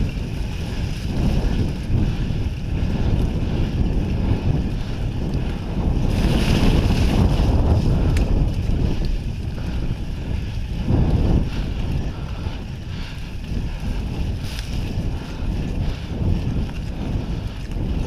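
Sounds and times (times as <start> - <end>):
bike rumbling over dirt track: 0.0 - 18.0
wind buffeting microphone: 0.0 - 18.0.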